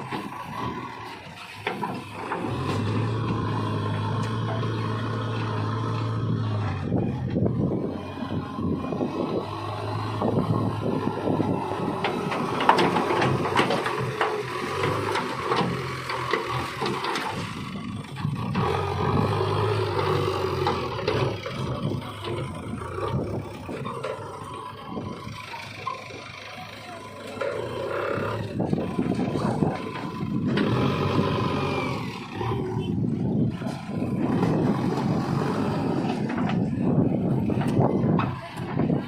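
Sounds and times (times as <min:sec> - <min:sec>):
backhoe loader diesel engine: 0:00.0 - 0:39.0.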